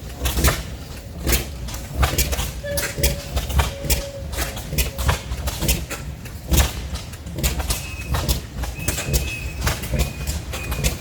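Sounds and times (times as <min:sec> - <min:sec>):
old stationary engines popping: 0:00.0 - 0:11.0.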